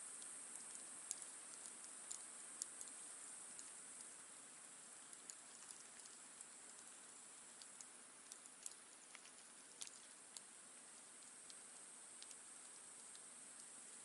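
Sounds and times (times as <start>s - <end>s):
campfire crackling: 0.0s - 14.0s
soft steady hiss: 0.0s - 14.0s.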